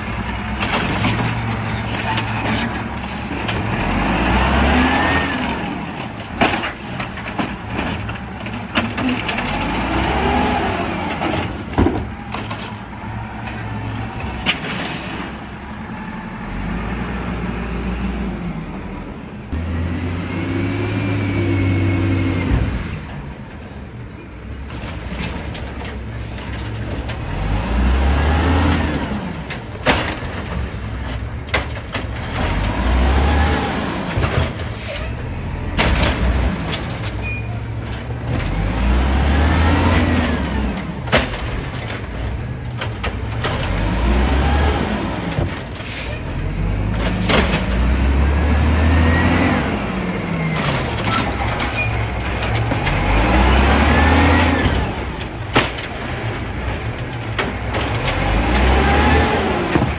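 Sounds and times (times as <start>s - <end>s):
truck engine revving: 0.0s - 23.2s, 26.6s - 31.1s, 32.0s - 59.9s.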